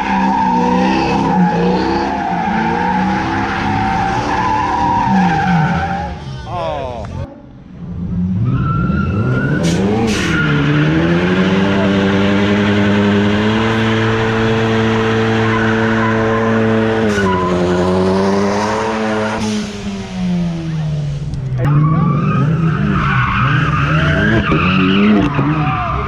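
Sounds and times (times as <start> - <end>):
car engine revving: 0.0 - 6.2, 7.0 - 26.0.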